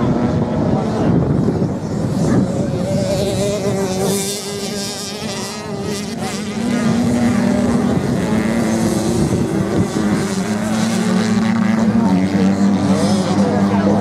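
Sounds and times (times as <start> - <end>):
off-road motorcycle engines revving: 0.0 - 14.0.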